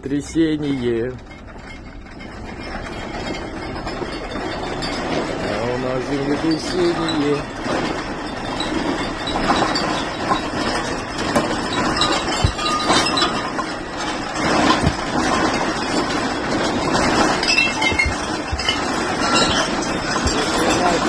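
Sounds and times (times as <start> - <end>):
earthquake rattle and rumble: 0.0 - 21.0
glass objects clinking and knocking: 0.1 - 21.0.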